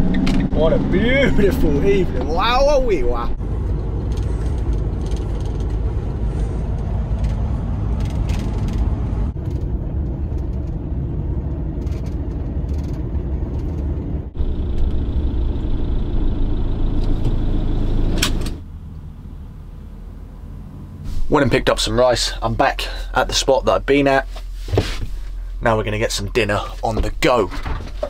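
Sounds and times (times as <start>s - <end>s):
tyre road noise: 0.0s - 28.0s
van engine rumble: 0.0s - 28.0s.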